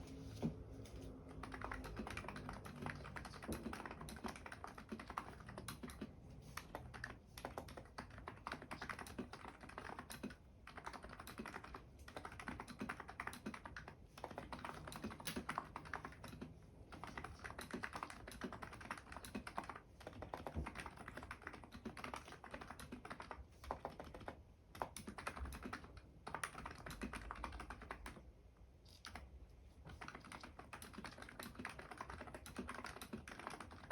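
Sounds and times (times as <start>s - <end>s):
keyboard typing: 0.9s - 28.3s, 28.9s - 33.9s.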